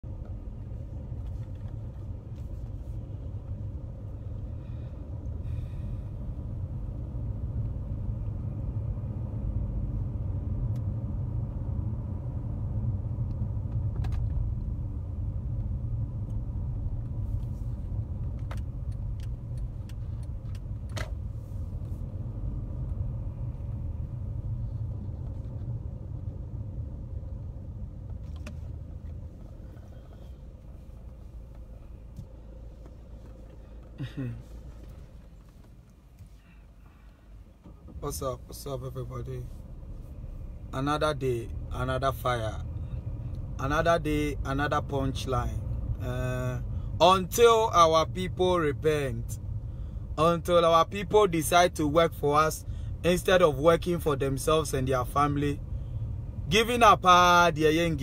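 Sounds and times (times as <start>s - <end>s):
road vehicle rumbling: 0.0s - 58.0s.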